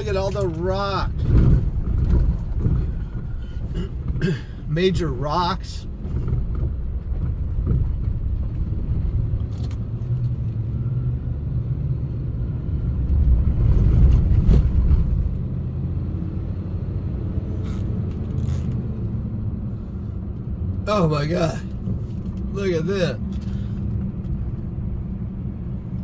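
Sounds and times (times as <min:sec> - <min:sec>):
car driving on wet road: 0:00.0 - 0:26.0.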